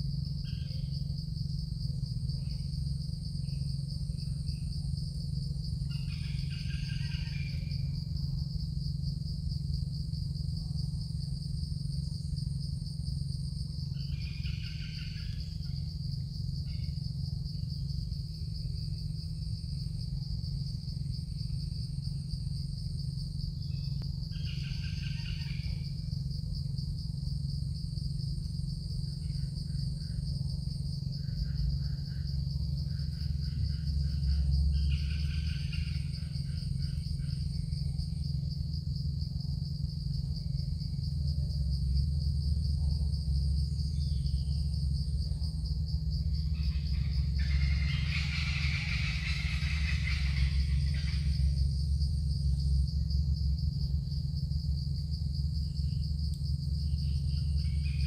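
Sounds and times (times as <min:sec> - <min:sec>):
insects trilling: 0:00.0 - 0:58.0
low steady rumble: 0:00.0 - 0:58.0.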